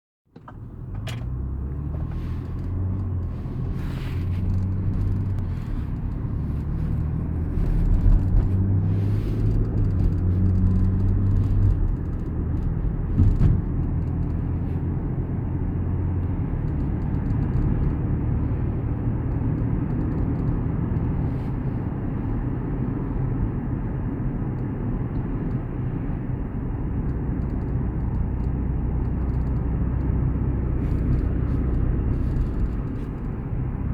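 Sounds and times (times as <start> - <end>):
car engine rumbling: 0.3 - 33.9.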